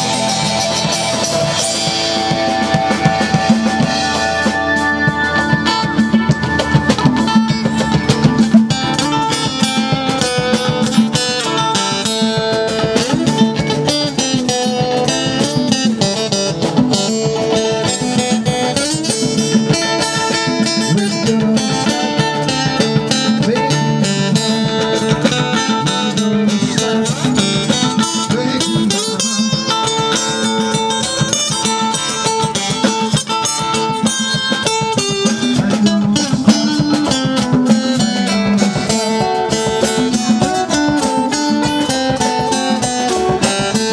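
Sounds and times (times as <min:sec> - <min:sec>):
rock band jamming: 0:00.0 - 0:43.9.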